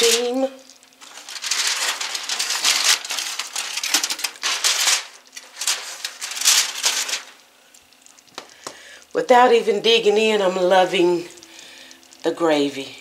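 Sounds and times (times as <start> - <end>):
aluminum foil crinkling: 0.0 - 9.2, 9.8 - 12.3.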